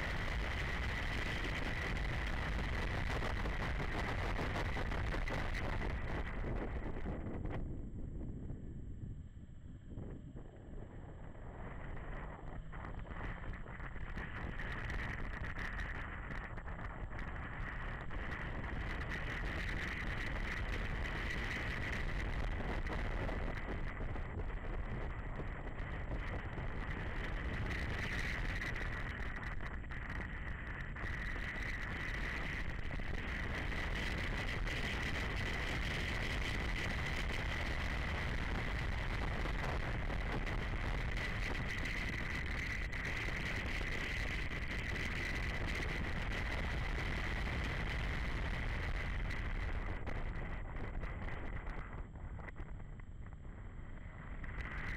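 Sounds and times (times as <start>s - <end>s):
wind rush on microphone: 0.0s - 54.9s.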